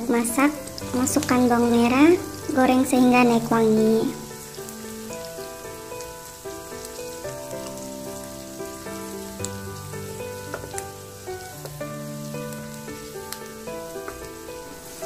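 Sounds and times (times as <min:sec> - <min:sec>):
background music with held notes: 0:00.0 - 0:15.0
shallots sizzling in oil: 0:00.0 - 0:15.0.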